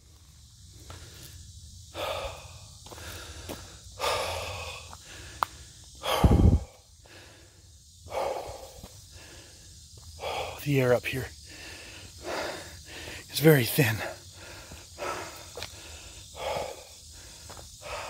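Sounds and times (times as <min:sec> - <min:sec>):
heavy gasping breaths: 0:00.8 - 0:10.7, 0:11.3 - 0:18.0.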